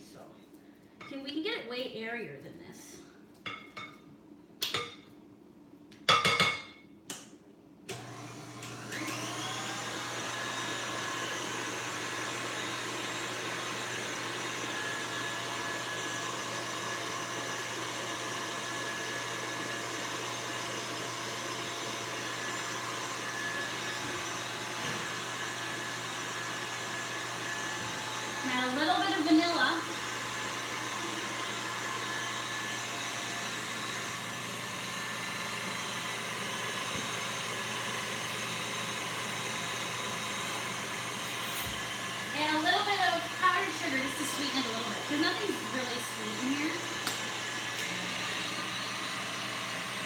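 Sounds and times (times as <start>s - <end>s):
stand mixer whisking: 7.9s - 50.0s.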